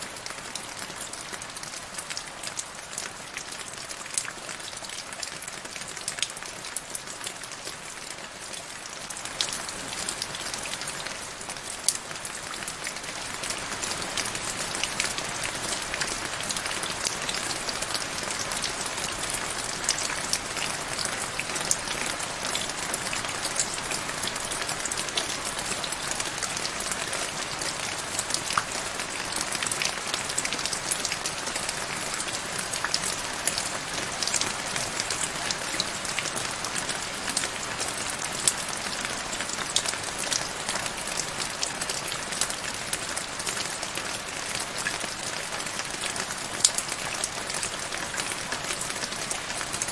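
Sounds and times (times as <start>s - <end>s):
rain falling into a puddle: 0.0s - 49.9s.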